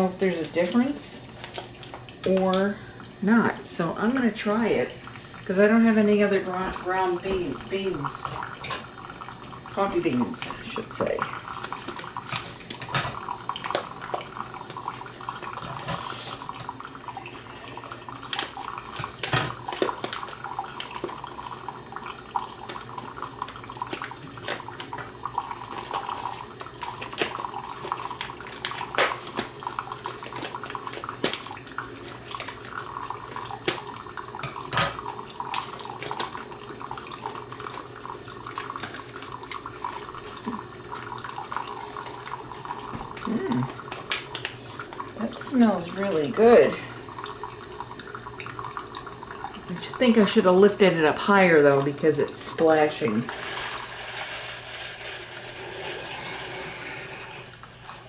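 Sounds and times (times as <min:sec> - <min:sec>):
coffee pouring into cup: 0:00.0 - 0:58.0.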